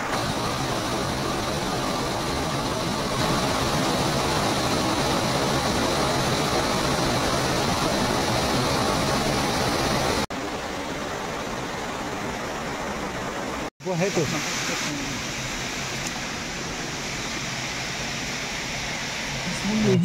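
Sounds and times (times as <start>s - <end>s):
waterfall pouring over rocks: 0.0s - 20.0s.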